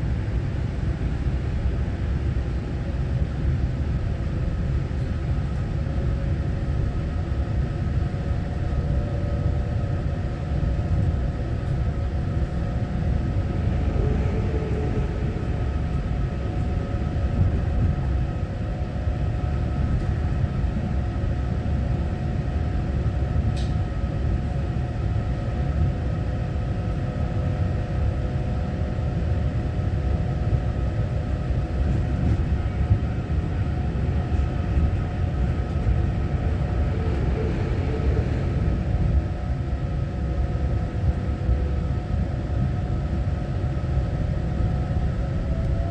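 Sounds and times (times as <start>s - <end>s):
train car rumble: 0.0s - 45.9s.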